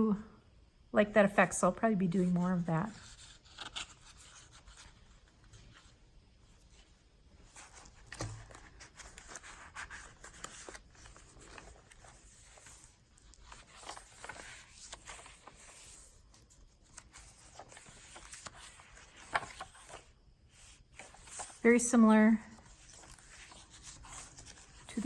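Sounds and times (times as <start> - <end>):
paper rustling: 2.3 - 21.7, 22.5 - 25.0.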